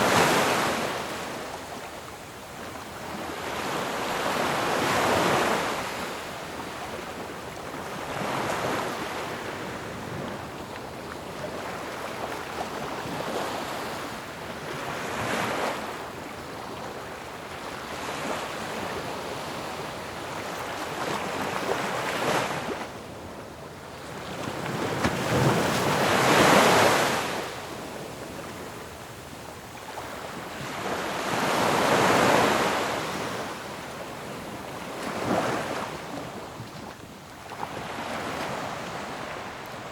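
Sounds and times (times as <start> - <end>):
ocean waves crashing on shore: 0.0 - 39.9.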